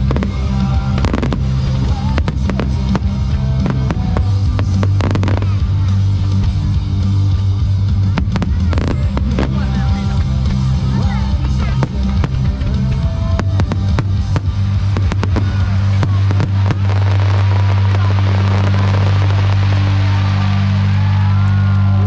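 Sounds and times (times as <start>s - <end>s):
fireworks bangs and crackles: 0.0s - 22.0s
loud music with heavy bass: 0.0s - 22.0s.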